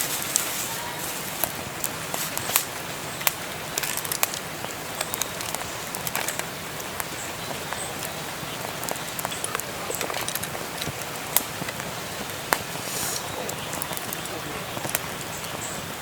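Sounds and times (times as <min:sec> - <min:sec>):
steady fire hiss: 0:00.0 - 0:16.0
wood fire crackling and popping: 0:00.0 - 0:16.0.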